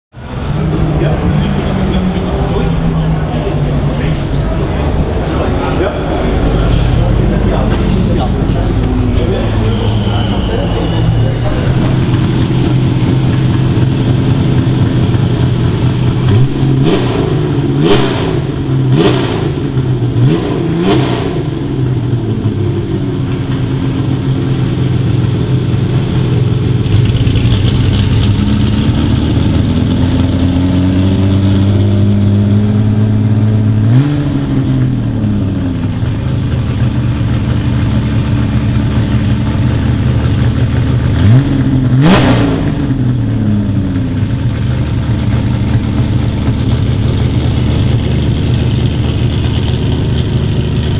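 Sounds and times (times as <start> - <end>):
engine throttle blips: 0.1 - 50.9
race car engine idling: 0.2 - 50.9.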